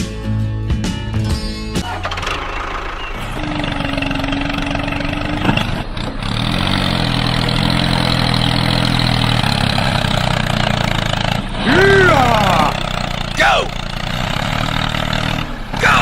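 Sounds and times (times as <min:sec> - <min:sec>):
small engine starting and idling: 0:01.7 - 0:16.0.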